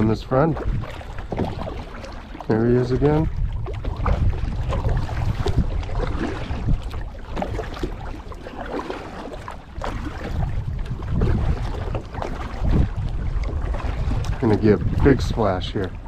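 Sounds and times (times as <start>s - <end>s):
water splashing around paddle: 0.0s - 16.0s
wind rumbling on microphone: 0.0s - 16.0s.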